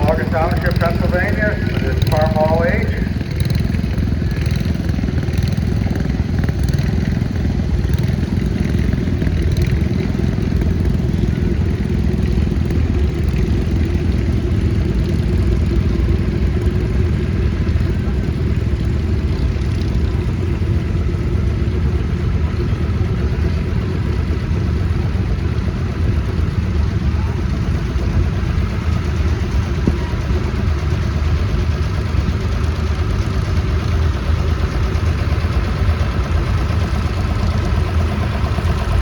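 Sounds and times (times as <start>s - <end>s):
tractor engine running: 0.0s - 39.0s.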